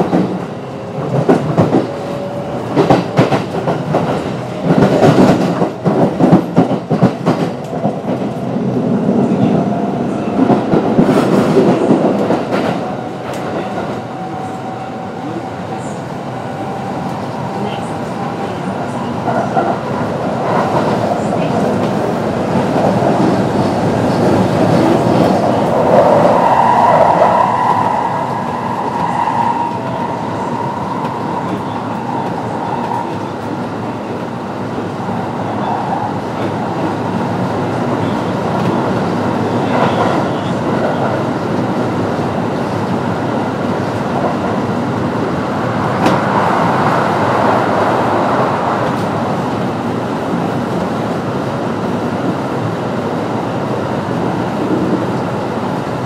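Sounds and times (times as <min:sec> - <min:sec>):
train wheels rolling on rail: 0:00.0 - 0:56.0.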